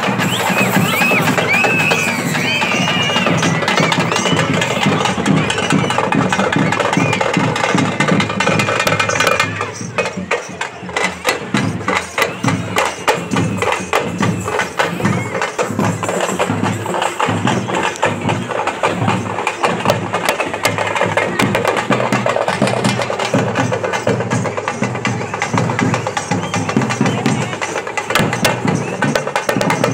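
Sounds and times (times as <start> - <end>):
drums playing fast rhythm: 0.0 - 29.9.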